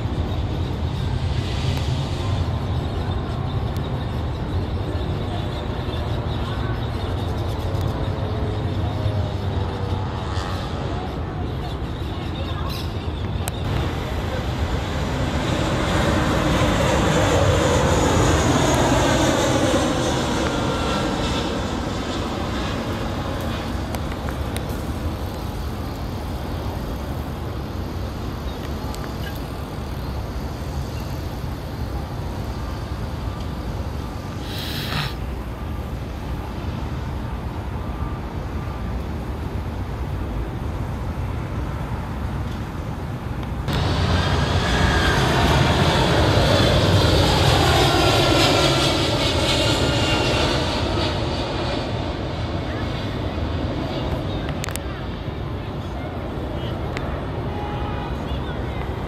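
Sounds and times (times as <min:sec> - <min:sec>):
jet airliner passing: 0:00.0 - 0:59.0.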